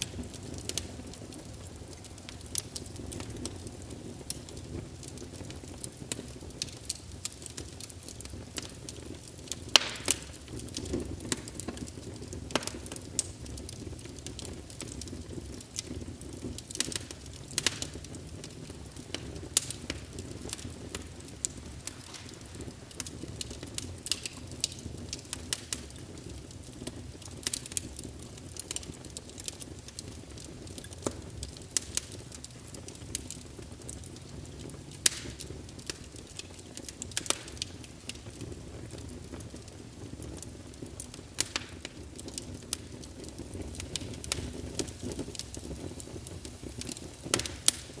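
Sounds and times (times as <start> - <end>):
fire crackling and popping: 0.0 - 48.0
fire rushing: 0.0 - 48.0.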